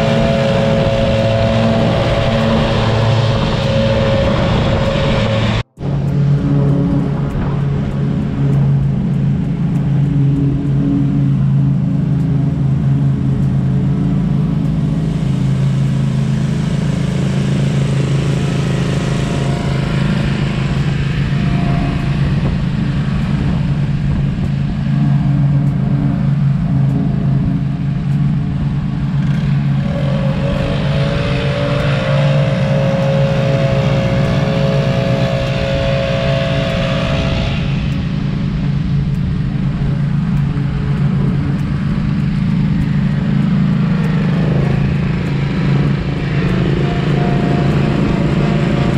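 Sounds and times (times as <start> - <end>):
leaf blower: 0.0 - 7.8, 14.5 - 27.9, 28.5 - 38.4, 39.8 - 48.9
higher engine tone swooping up: 0.0 - 48.9
mower engine droning: 0.0 - 48.9.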